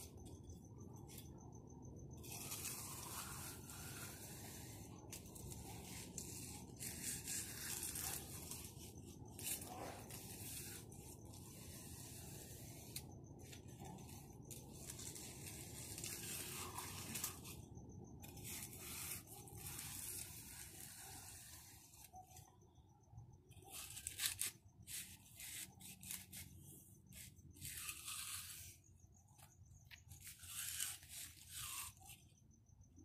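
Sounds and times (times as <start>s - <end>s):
concrete edger scraping concrete: 2.2s - 17.6s, 18.2s - 22.4s, 23.6s - 28.8s, 29.9s - 32.2s.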